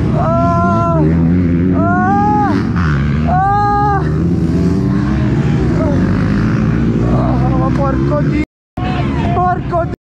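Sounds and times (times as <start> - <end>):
motocross engine revving: 0.0 - 8.5.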